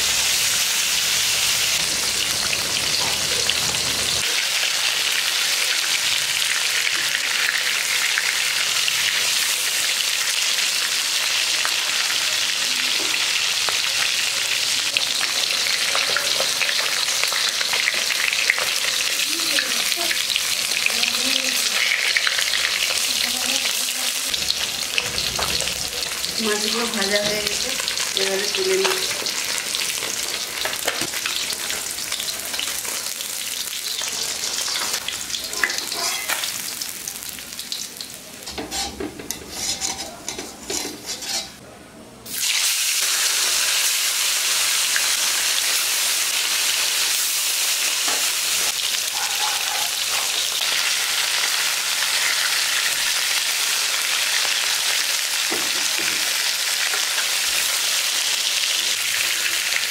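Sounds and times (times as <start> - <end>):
hot oil sizzling in a pan: 0.0 - 41.6, 42.2 - 59.9.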